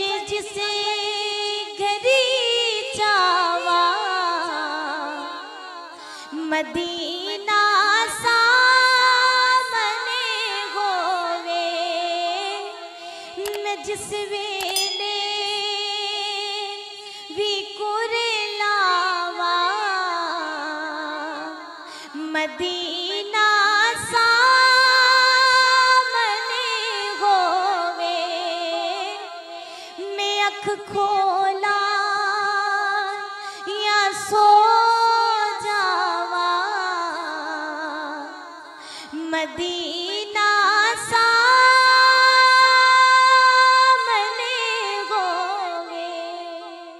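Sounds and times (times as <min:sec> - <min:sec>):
woman singing devotional song: 0:00.0 - 0:46.9.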